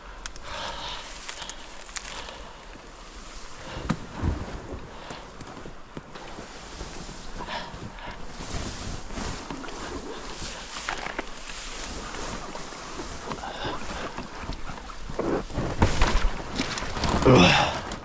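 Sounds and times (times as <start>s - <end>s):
water splashing around boat: 0.5s - 18.0s.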